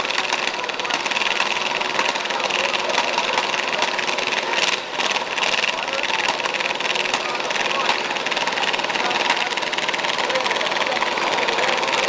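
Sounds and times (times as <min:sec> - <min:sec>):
car engines rattling: 0:00.0 - 0:12.0.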